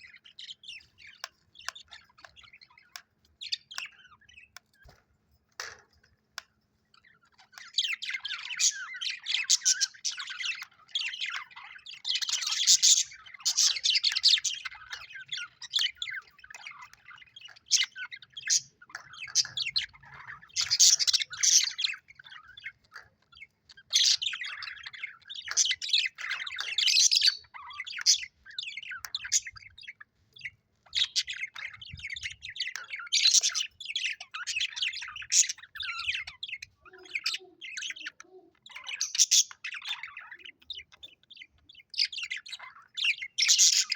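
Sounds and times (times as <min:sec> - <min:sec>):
budgerigars chirping and warbling: 0:00.0 - 0:43.9.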